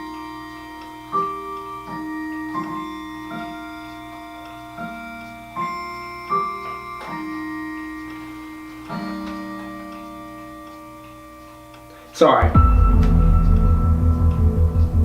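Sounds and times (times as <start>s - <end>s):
sparse piano notes: 0.0s - 15.0s.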